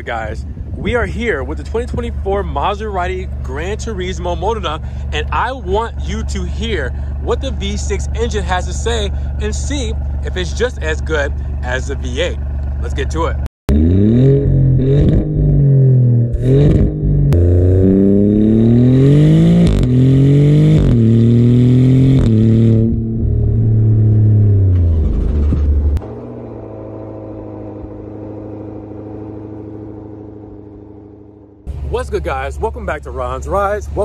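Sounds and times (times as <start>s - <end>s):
car exhaust revving: 0.4s - 34.0s.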